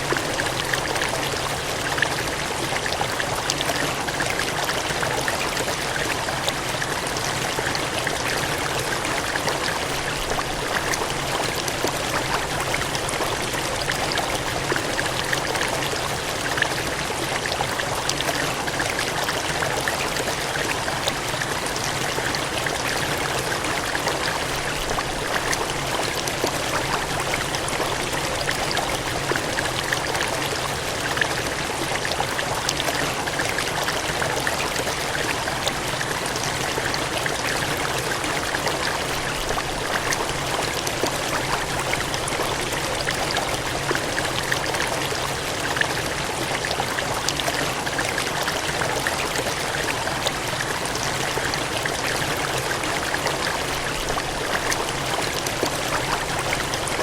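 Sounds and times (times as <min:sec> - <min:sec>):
gushing cascading water: 0:00.0 - 0:57.0.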